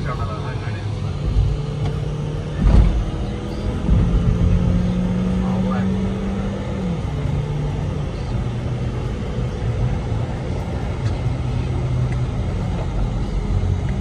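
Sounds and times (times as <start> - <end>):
car engine from inside cabin: 0.0 - 14.0
road noise: 0.0 - 14.0.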